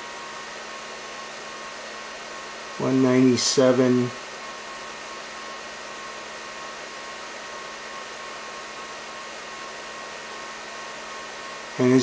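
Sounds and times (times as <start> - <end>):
cooling fans whirring: 0.0 - 12.0
faint hum: 0.0 - 12.0.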